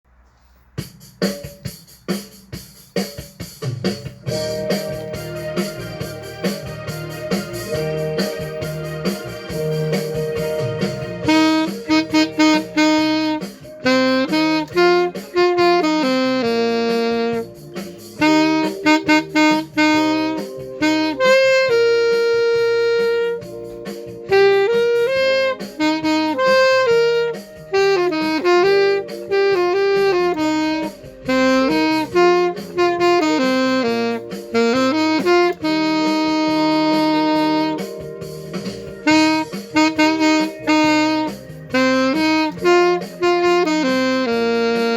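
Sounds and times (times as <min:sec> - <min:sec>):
cha-cha backing track: 0:00.2 - 0:44.9
saxophone playing melody: 0:04.2 - 0:44.9.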